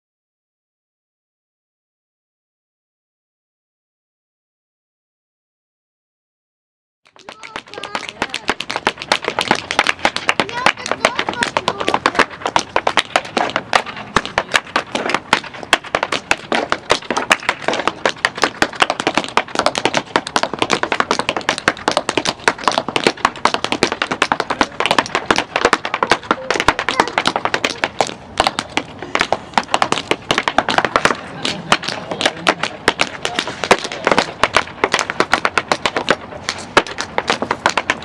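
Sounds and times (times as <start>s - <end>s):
tap shoes on wooden boards: 7.1s - 38.0s.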